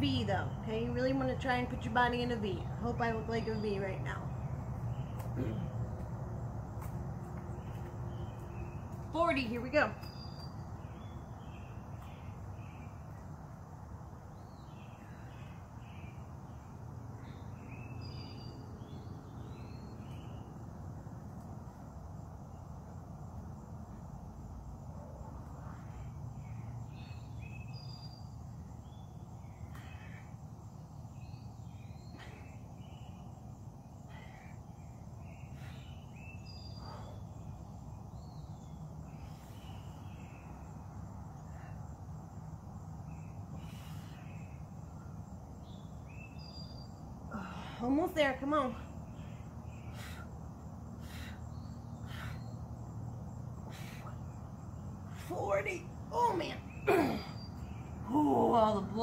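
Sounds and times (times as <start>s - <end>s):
steady low rumble: 0.0s - 56.8s
songbirds chirping: 0.0s - 59.0s
faint high insect hiss: 10.1s - 58.5s.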